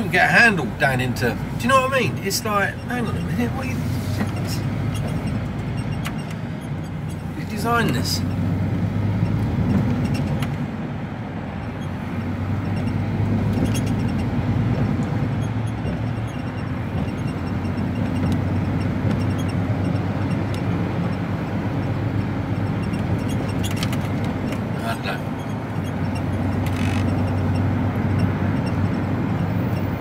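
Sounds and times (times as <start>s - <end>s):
lorry diesel engine drone: 0.0s - 30.0s
road noise: 0.0s - 30.0s.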